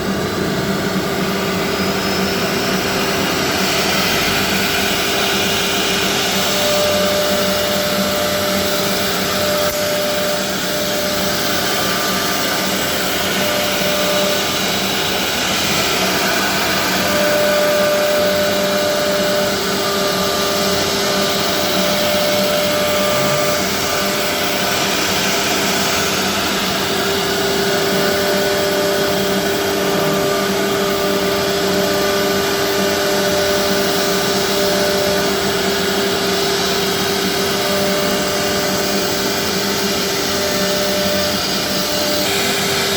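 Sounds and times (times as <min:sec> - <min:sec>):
wood router whirring: 0:00.0 - 0:42.9
whining spindle tones: 0:01.4 - 0:35.9.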